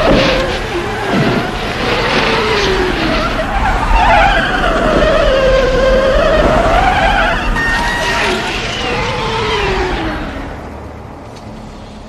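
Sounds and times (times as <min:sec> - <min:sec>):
truck tires screeching: 0:00.0 - 0:11.8.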